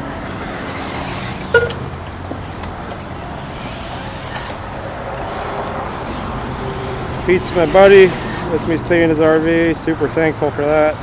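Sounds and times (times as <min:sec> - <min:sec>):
electric rc cars racing: 0:00.0 - 0:11.0.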